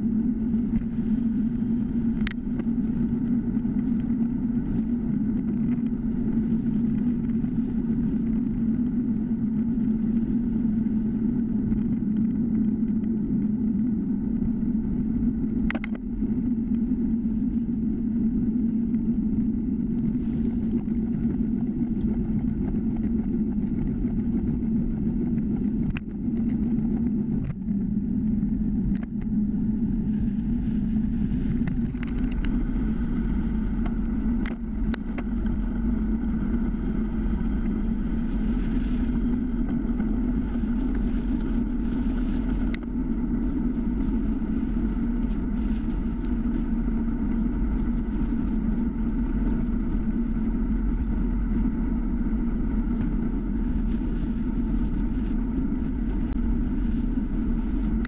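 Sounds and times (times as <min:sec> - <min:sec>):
wind: 0:00.0 - 0:58.0
tyres rumbling on asphalt: 0:00.1 - 0:58.0.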